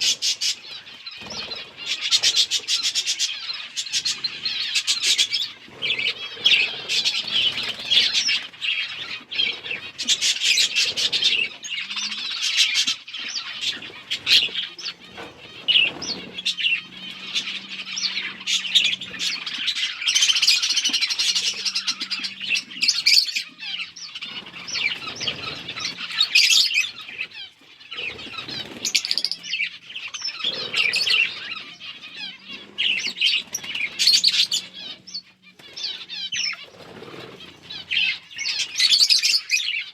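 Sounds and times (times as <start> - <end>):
wing flutters: 0.0 - 39.5
budgerigars chirping and chattering: 0.0 - 39.9.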